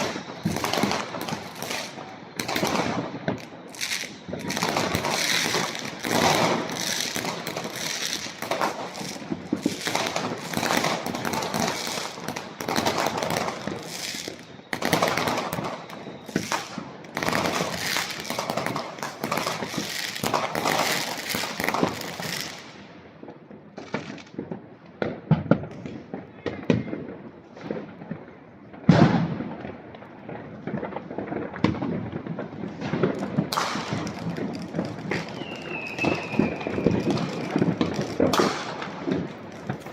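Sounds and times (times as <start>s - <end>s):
crackling of firecrackers: 0.0s - 39.9s
fireworks and firecrackers banging: 0.0s - 39.9s.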